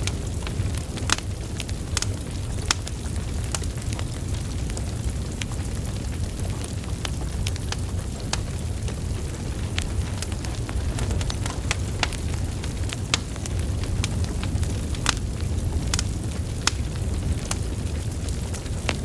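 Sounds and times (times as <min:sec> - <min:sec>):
burning logs crackling and popping: 0:00.0 - 0:19.0
wood fire rumbling: 0:00.0 - 0:19.0.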